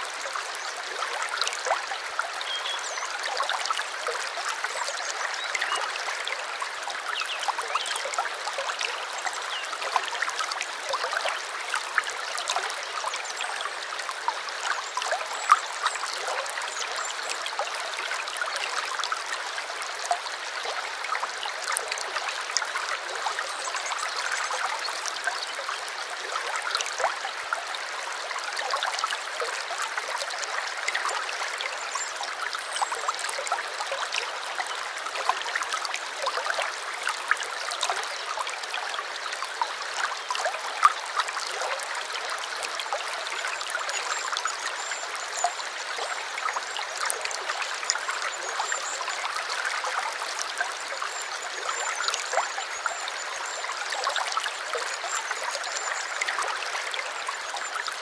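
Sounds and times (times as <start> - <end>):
stream trickling and gurgling: 0.0 - 58.0.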